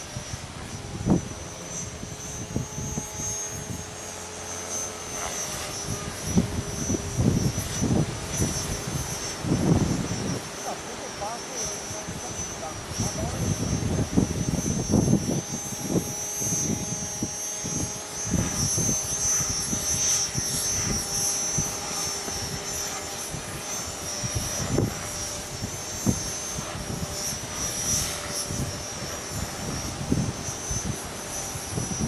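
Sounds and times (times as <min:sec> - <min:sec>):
wind buffeting microphone: 0:00.0 - 0:04.2, 0:05.2 - 0:32.0
rc helicopter motor whine: 0:00.0 - 0:32.0
rotor hum: 0:00.0 - 0:32.0.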